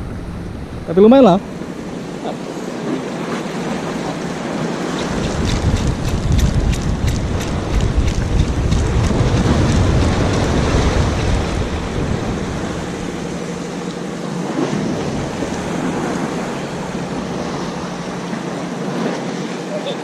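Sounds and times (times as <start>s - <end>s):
wind buffeting microphone: 0.0s - 19.4s
sea washing against breakwater: 0.0s - 20.0s.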